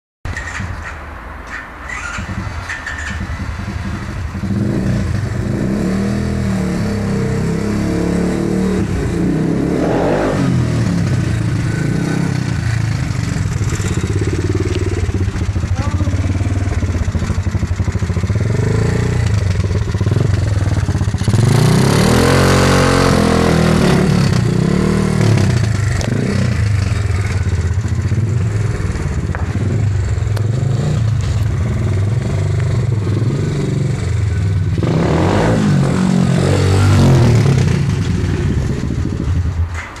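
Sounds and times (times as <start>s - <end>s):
small motorcycle engine revving: 1.9s - 39.5s.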